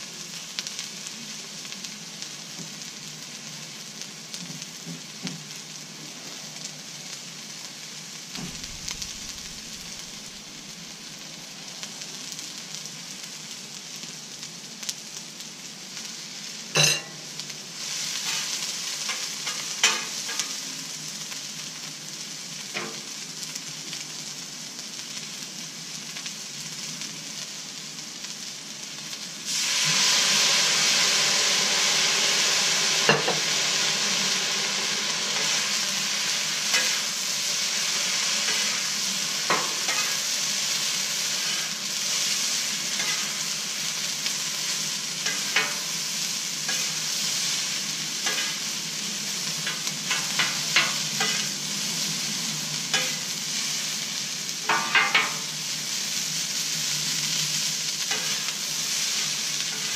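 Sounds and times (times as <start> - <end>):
rice sizzling on a griddle: 0.0 - 59.9.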